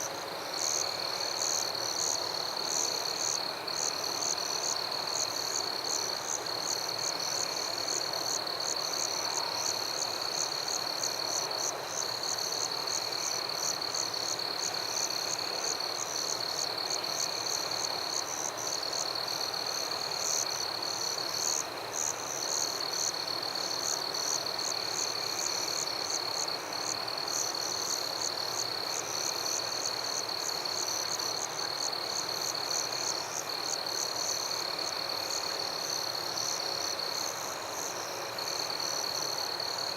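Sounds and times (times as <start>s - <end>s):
frogs and insects trilling: 0.0s - 39.9s.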